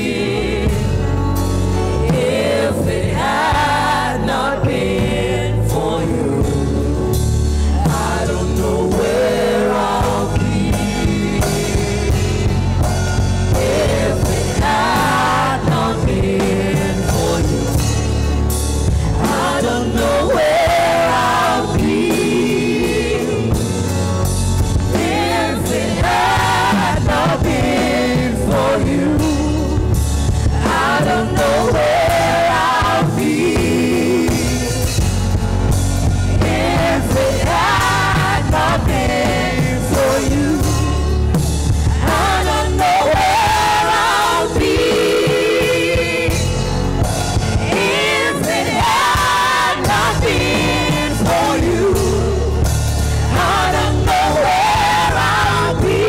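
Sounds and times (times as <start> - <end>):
band music with heavy bass: 0.0 - 56.0
gospel voices singing: 0.0 - 56.0.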